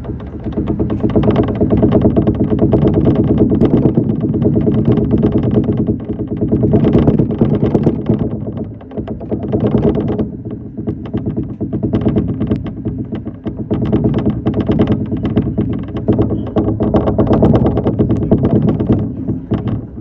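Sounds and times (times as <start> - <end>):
wheel and track clatter: 0.0 - 20.0.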